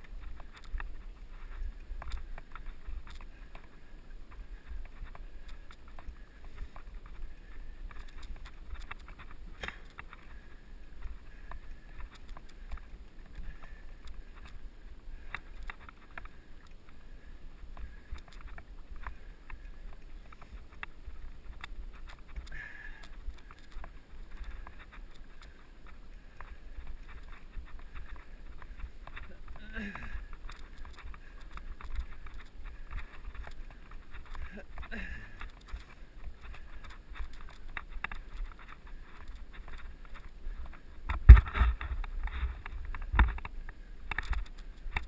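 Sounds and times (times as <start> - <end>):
bike clicks and rattles: 0.0 - 45.0.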